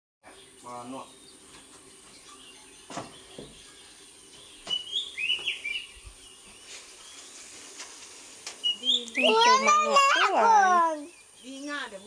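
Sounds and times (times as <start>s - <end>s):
bird chirping: 0.2s - 12.0s.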